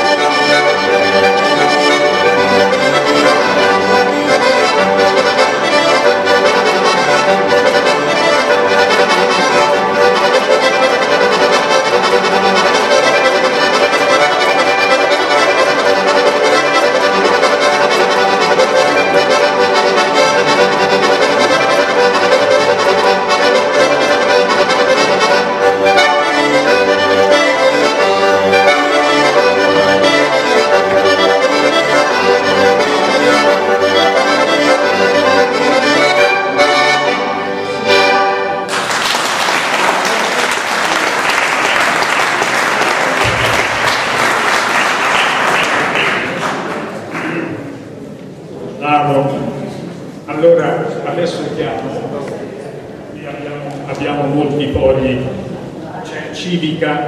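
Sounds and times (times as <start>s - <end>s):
button accordion folk tune: 0.0s - 48.0s.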